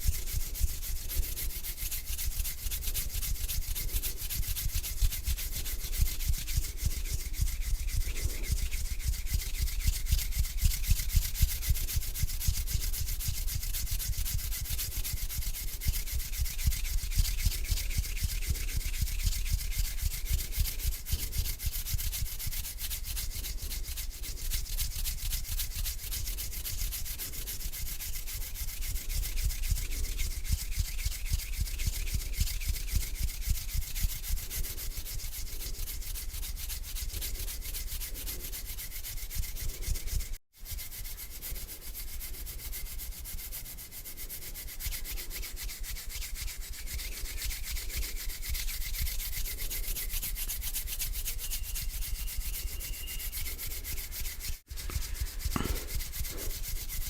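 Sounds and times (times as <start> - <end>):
hands rubbing together: 0.0 - 57.0.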